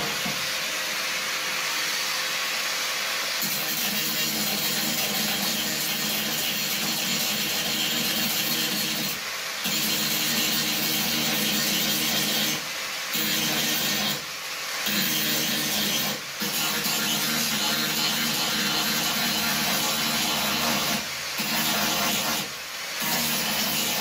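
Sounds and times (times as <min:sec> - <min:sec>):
power grinder on sheet metal: 0:00.0 - 0:24.0.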